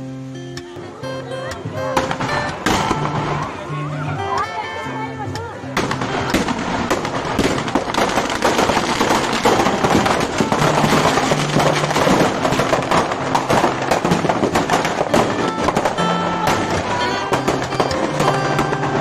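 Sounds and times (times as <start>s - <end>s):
background music: 0.0s - 19.0s
firecrackers crackling and bursting: 1.8s - 4.0s, 5.7s - 19.0s.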